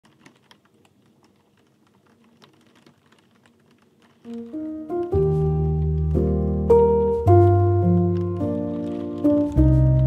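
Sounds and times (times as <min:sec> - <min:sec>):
raindrops ticking on a window: 0:00.0 - 0:10.0.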